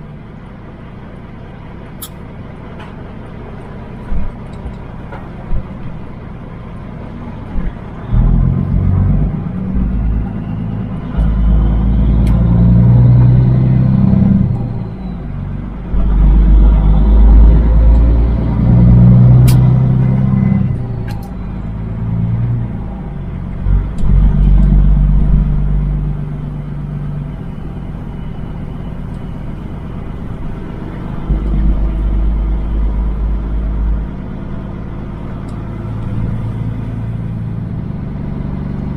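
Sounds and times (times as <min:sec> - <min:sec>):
truck diesel engine under load: 0:00.0 - 0:38.9.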